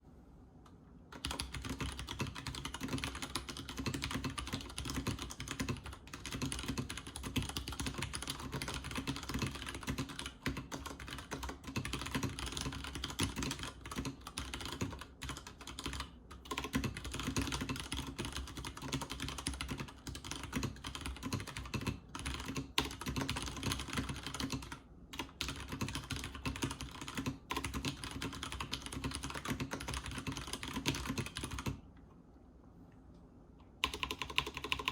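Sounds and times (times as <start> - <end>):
fast typing on mechanical keyboard: 1.1 - 31.8, 33.8 - 34.9.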